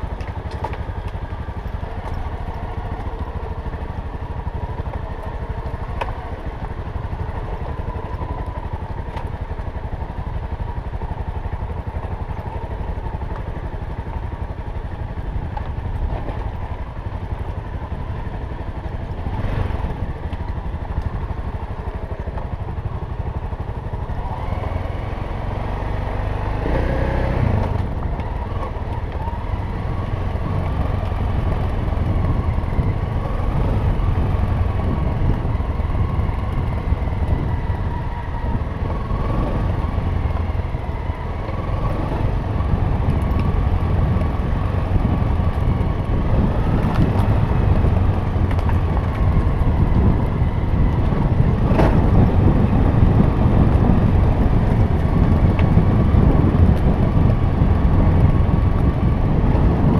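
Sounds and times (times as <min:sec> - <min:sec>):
dirt bike engine running: 0:00.0 - 0:59.9
rumble of riding over stones: 0:00.0 - 0:59.9.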